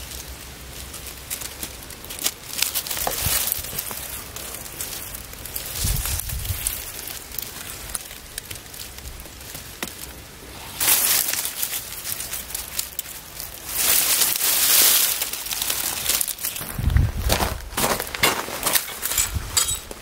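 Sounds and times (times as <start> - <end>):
dry grass and leaves rustling: 0.0 - 20.0.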